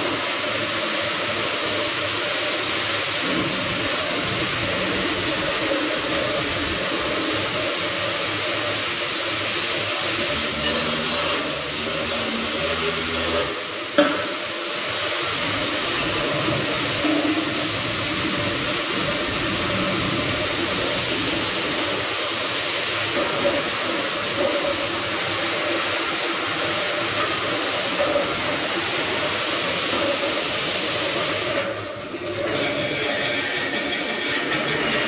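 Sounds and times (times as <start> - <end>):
arc welding: 0.0 - 35.0.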